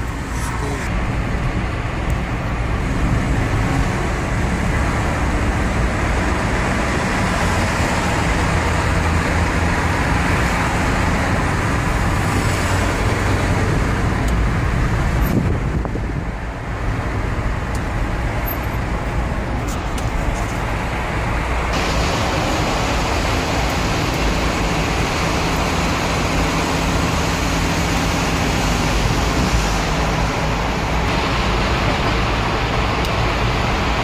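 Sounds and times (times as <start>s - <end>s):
car tyre and engine rumble: 0.0s - 34.0s
surrounding traffic: 0.0s - 34.0s.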